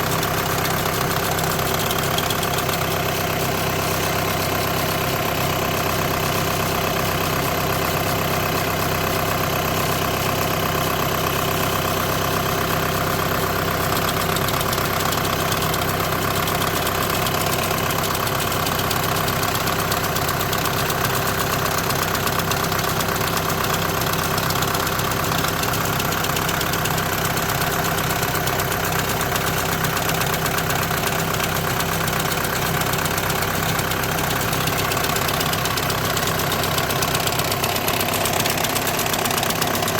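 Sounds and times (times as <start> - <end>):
car engine idling with vibration: 0.0 - 39.9.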